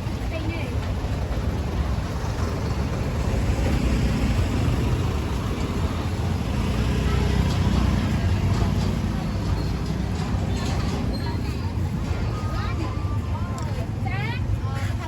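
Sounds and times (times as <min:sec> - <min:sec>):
street traffic: 0:00.0 - 0:15.0
vehicle engine running close: 0:00.0 - 0:15.0.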